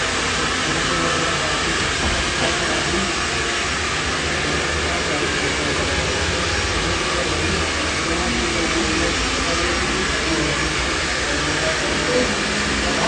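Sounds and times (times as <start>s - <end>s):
faint voices: 0.0s - 13.0s
steady rushing noise: 0.0s - 13.0s.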